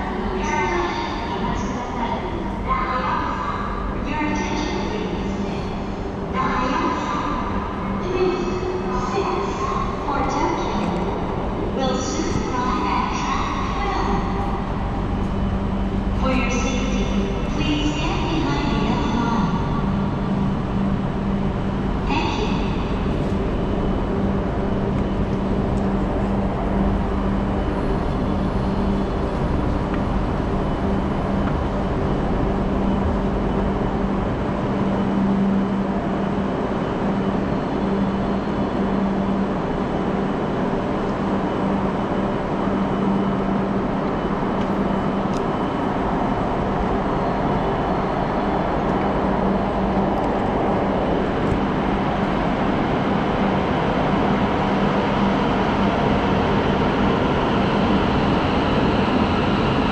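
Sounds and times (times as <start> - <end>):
station background noise: 0.0 - 59.9
low hum: 4.9 - 59.9.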